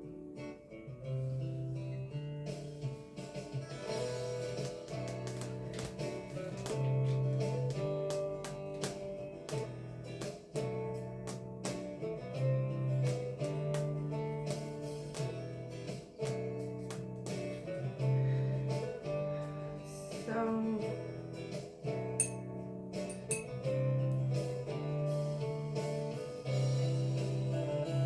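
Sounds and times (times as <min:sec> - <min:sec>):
plucked guitar music: 0:00.0 - 0:28.0.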